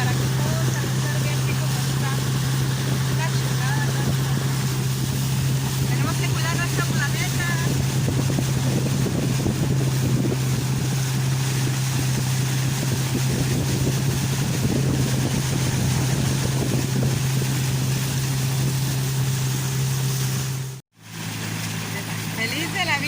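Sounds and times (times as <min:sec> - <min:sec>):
wind buffeting microphone: 0:00.0 - 0:20.1
boat motor humming: 0:00.0 - 0:23.0
water rushing past hull: 0:00.0 - 0:23.0.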